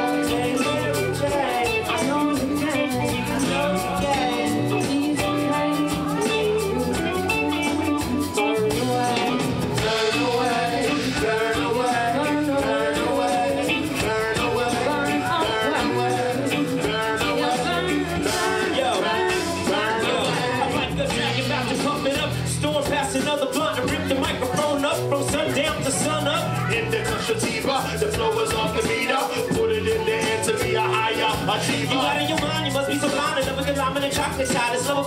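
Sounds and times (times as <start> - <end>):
drum kit: 0.0 - 35.0
electric guitar: 0.0 - 35.0
person singing into microphone: 0.0 - 35.0.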